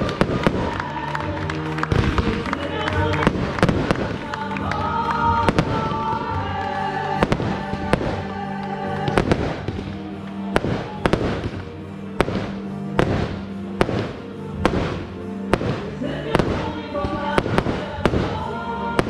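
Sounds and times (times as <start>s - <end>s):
fireworks bursting: 0.0s - 19.0s
music with long held notes: 0.0s - 19.0s.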